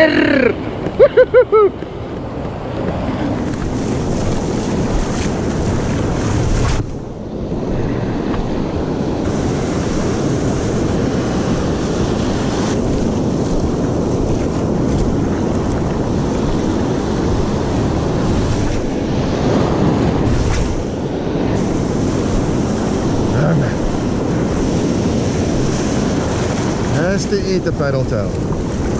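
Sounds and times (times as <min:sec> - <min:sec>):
surf washing on beach: 0:00.0 - 0:28.9
wind buffeting microphone: 0:00.0 - 0:28.9.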